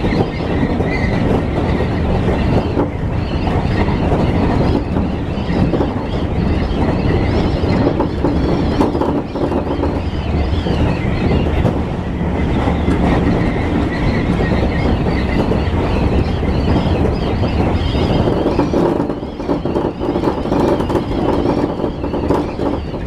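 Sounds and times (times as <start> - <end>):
oncoming train passing: 0.0 - 23.0
train knock: 0.0 - 23.0
train wheels rumbling on rail: 0.0 - 23.0.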